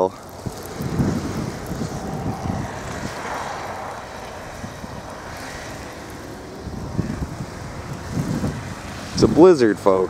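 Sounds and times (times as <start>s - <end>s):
vehicle passing on snowy road: 0.0s - 10.0s
wind buffeting microphone: 0.0s - 10.0s.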